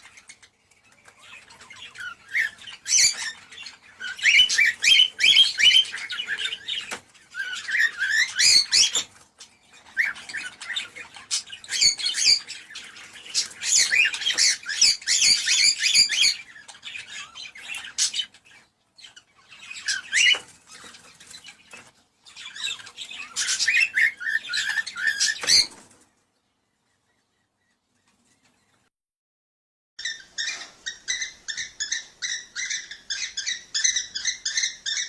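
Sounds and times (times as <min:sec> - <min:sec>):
cockatiels chirping and whistling: 0:00.0 - 0:25.8, 0:30.0 - 0:35.0.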